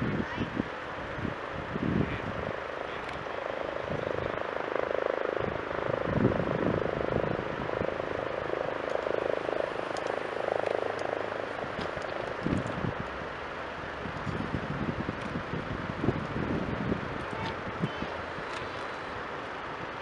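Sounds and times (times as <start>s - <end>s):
propeller aircraft flying overhead: 0.0s - 20.0s
wind rumble on microphone: 0.0s - 20.0s.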